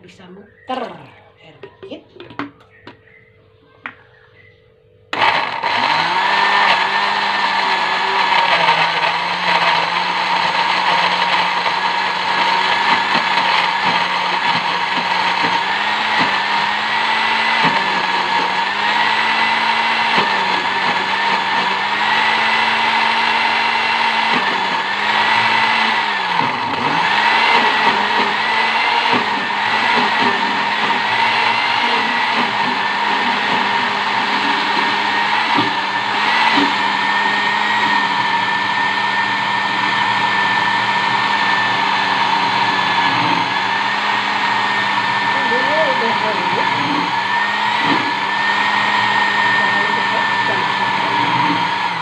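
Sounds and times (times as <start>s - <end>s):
electric blender running: 5.1s - 52.0s.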